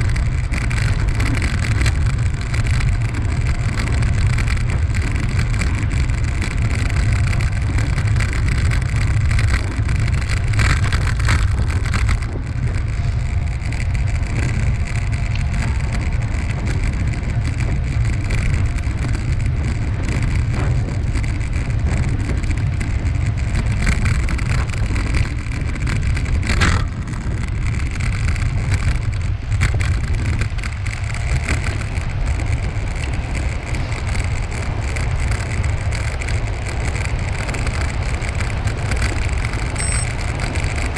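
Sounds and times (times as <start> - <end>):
light rattles: 0.0 - 40.9
tyre and path noise: 0.0 - 40.9
wind buffeting microphone: 0.0 - 40.9.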